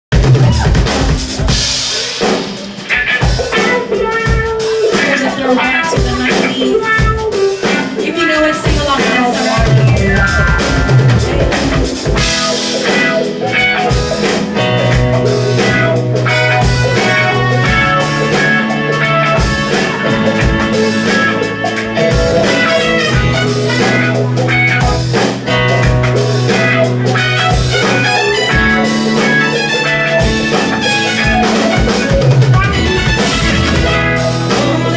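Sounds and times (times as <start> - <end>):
drum kit beat: 0.1 - 34.9
sustained instrumental notes: 0.2 - 34.9.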